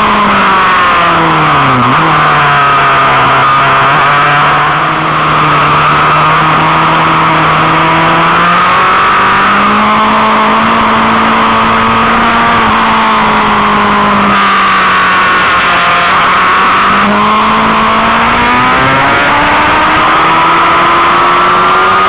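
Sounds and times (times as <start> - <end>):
motorcycle engine running hard: 0.0 - 22.0.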